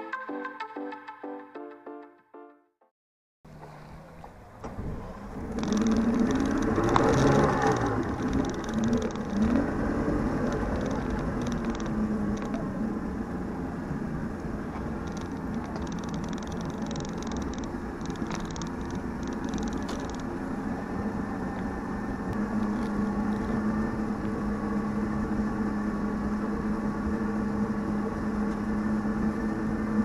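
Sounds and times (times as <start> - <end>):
motorboat engines: 3.5 - 30.0.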